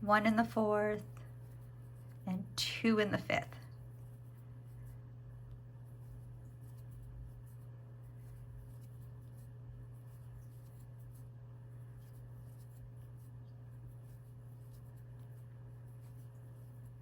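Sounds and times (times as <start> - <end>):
crochet hook scratching yarn: 0.0 - 5.0, 5.8 - 17.0.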